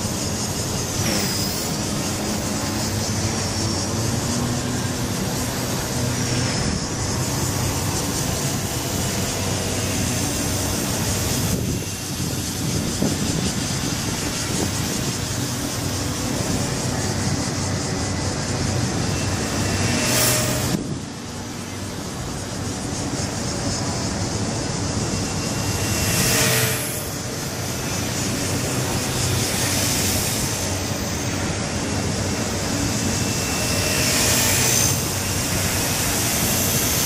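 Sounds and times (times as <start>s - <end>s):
model helicopter motor whine: 0.0s - 37.0s.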